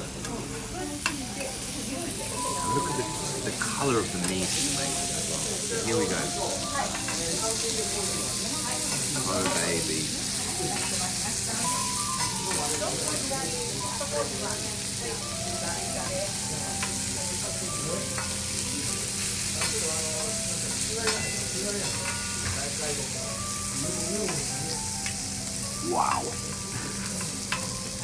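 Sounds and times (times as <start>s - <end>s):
food sizzling on griddle: 0.0s - 28.0s.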